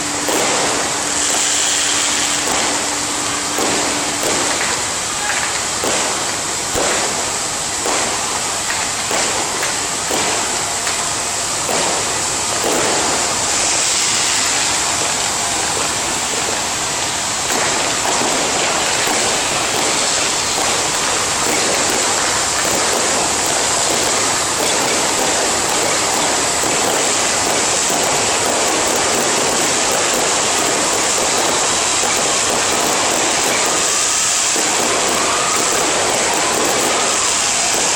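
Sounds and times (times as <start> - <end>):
firecrackers crackling: 0.0 - 37.9.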